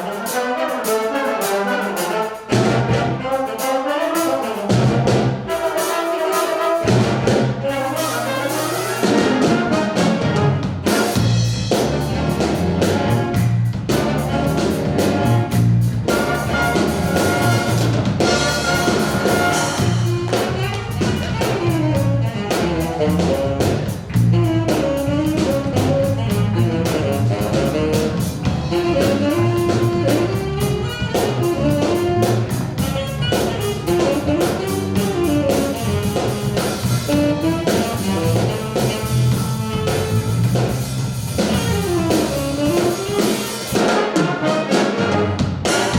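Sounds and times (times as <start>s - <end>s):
brass playing: 0.0s - 45.9s
drum kit groove: 0.0s - 45.9s
jazz band playing funk: 0.0s - 45.9s.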